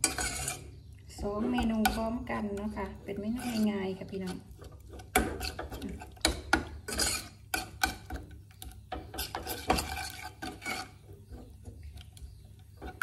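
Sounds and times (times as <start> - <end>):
metal spoon scraping saucepan: 0.0 - 13.0.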